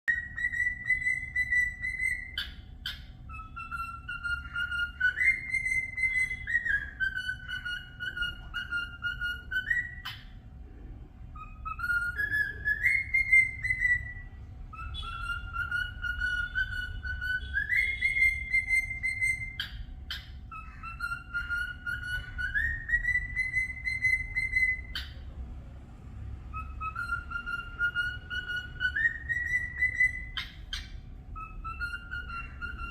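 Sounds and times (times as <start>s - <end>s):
cockatiel chirps: 0.1s - 10.4s, 11.3s - 25.3s, 26.5s - 32.9s
cockatiel whistling a tune: 0.1s - 10.4s, 11.3s - 25.3s, 26.5s - 32.9s.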